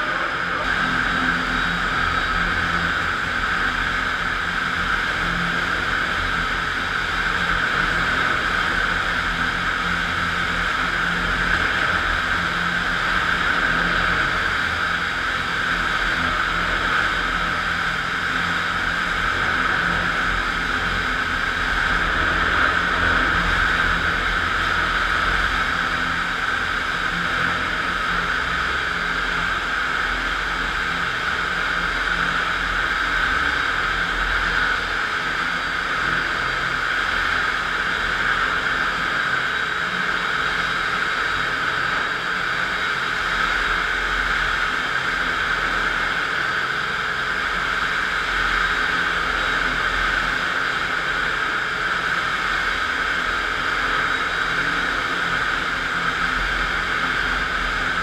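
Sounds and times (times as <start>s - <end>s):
floor grinder grinding concrete: 0.0s - 58.0s.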